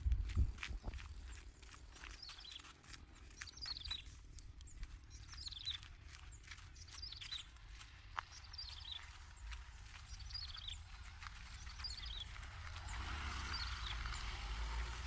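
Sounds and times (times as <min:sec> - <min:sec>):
bird chirping: 0:00.8 - 0:14.4.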